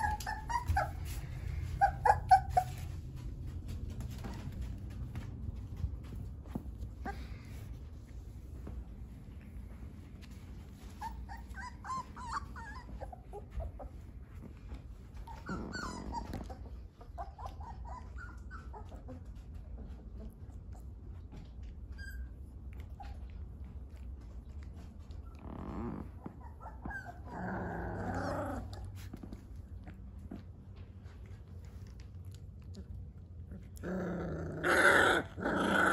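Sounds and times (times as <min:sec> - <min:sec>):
puppies growling and whimpering: 0:00.0 - 0:04.9, 0:10.0 - 0:35.9.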